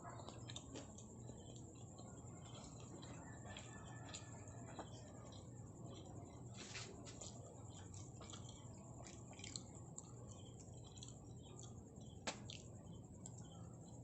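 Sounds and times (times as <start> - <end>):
close-up chewing mouth clicks: 0.0 - 14.0.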